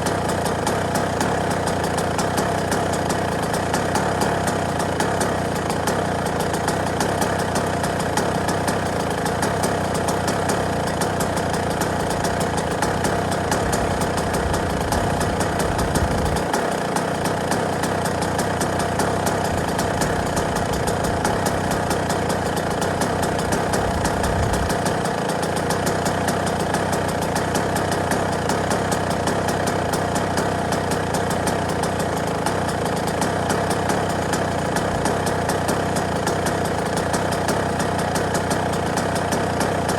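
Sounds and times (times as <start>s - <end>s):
two-stroke motorcycle engine idling: 0.0s - 39.9s.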